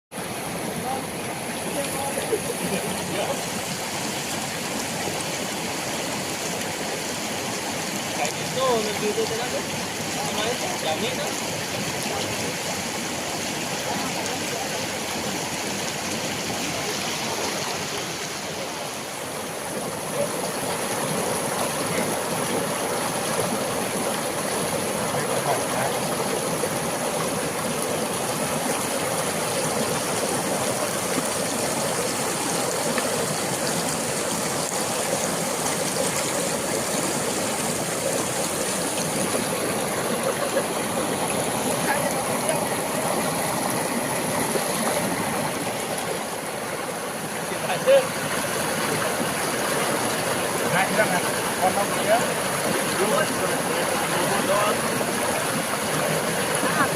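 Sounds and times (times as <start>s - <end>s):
water rushing at a dam: 0.2s - 56.9s.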